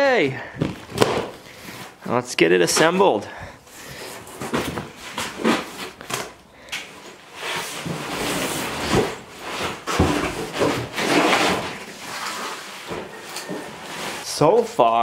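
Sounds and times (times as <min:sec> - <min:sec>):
cardboard and foam rustling: 0:00.5 - 0:15.0.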